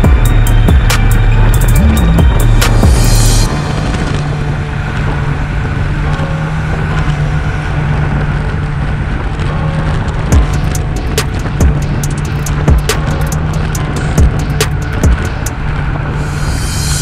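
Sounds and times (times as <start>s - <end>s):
constant low hum: 0.0s - 17.0s
steady rushing noise: 0.0s - 17.0s.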